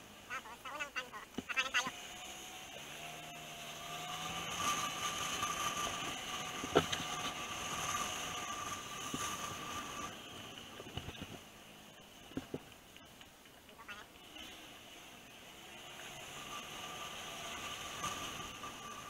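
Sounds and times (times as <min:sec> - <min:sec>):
scooter engine running: 0:01.4 - 0:12.8, 0:13.9 - 0:19.0.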